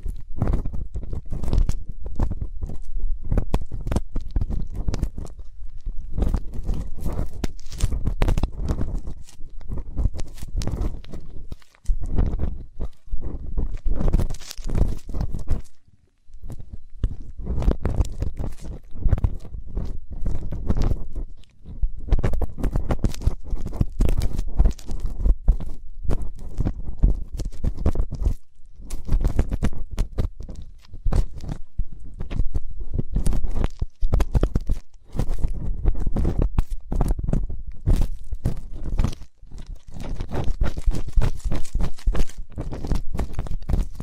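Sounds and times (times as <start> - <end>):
ear pick scratching microphone: 0.0 - 44.0.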